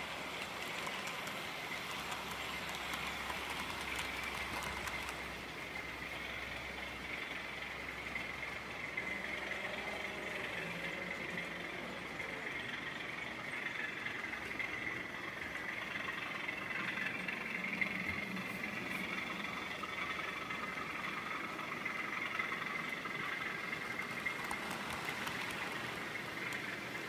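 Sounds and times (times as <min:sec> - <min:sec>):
model train motors whirring: 0:00.0 - 0:27.0.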